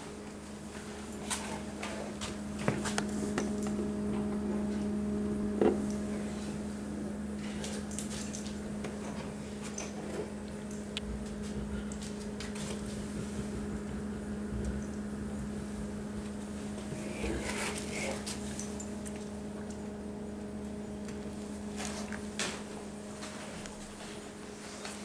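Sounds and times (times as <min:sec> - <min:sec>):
refrigerator humming: 0:00.0 - 0:25.0.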